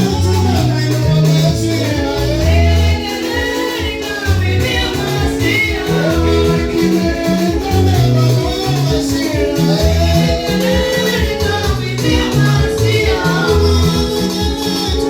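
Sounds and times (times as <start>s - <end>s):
bass line and steady beat: 0.0s - 15.0s
gospel singing voices: 0.0s - 15.0s.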